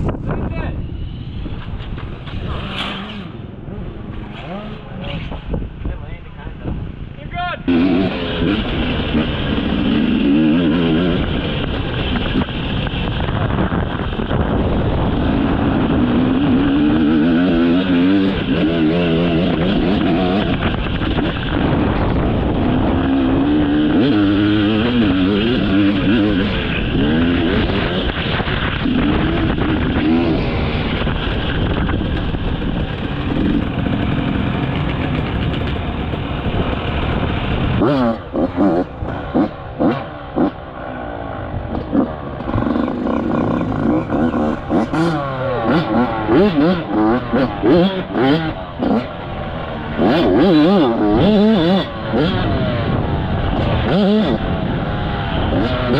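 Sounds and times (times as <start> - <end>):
dirt bike engine revving: 7.6 - 55.9.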